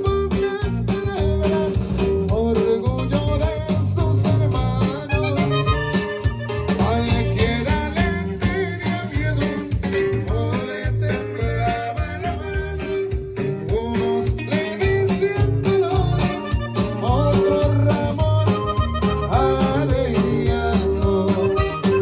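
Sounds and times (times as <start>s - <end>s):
bass line: 0.0s - 22.0s
plucked guitars: 0.0s - 22.0s.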